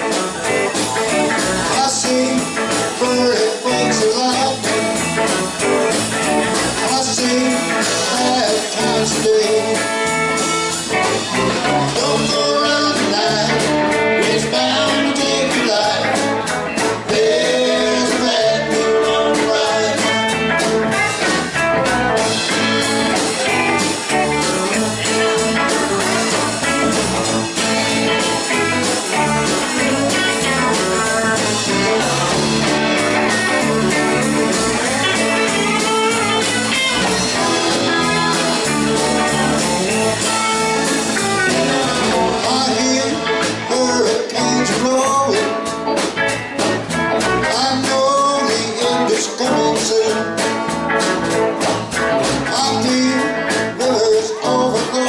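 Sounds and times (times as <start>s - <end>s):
drum kit beat: 0.0s - 55.0s
electric bass guitar: 0.0s - 55.0s
electric guitars: 0.0s - 55.0s.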